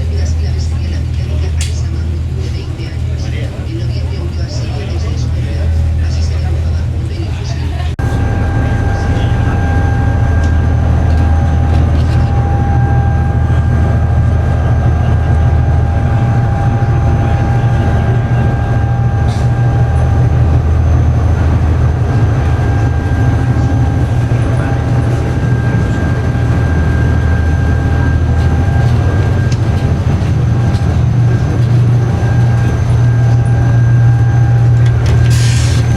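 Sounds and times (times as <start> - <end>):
ferry engines droning: 0.0 - 35.9
whining hum: 0.0 - 35.9.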